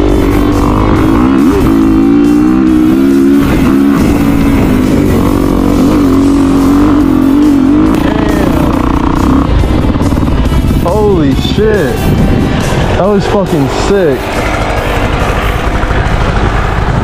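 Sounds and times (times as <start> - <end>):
background music: 0.0 - 17.0
dirt bike engine: 0.0 - 17.0.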